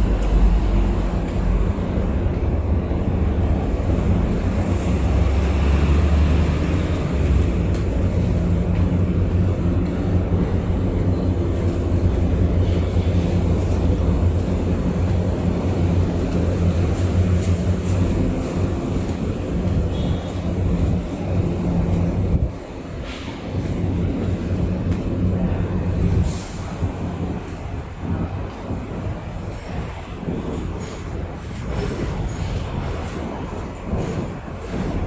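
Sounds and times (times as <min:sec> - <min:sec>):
outdoor low rumble: 0:00.0 - 0:35.0.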